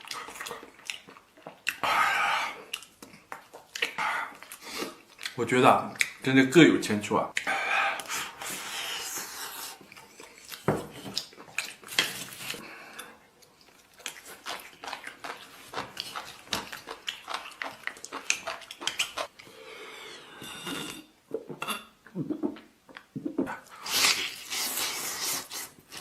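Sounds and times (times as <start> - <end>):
person chewing: 0.0 - 6.2, 7.3 - 19.6, 20.5 - 26.0.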